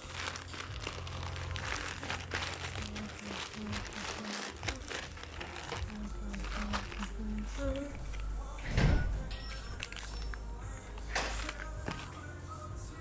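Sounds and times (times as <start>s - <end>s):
plastic bags crinkling: 0.0s - 8.5s, 9.5s - 12.3s.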